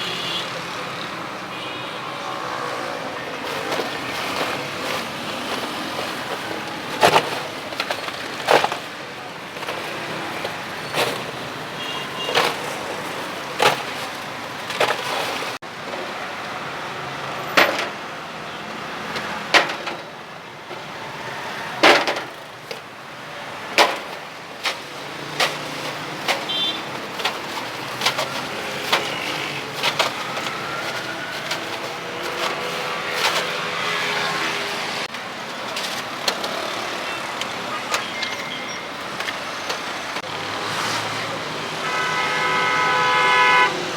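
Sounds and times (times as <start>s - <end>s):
street traffic noise: 0.0s - 43.9s.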